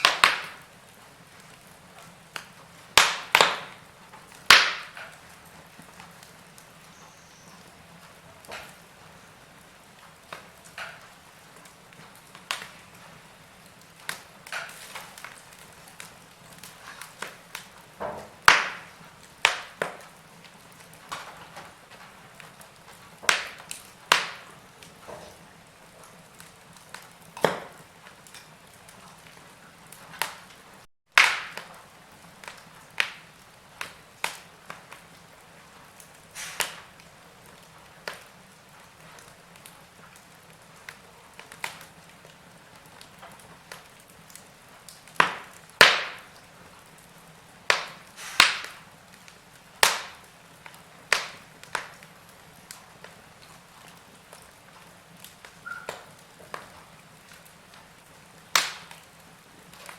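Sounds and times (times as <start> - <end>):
faint steady hiss: 0.0 - 59.9
wood fire crackling and popping: 0.0 - 59.9.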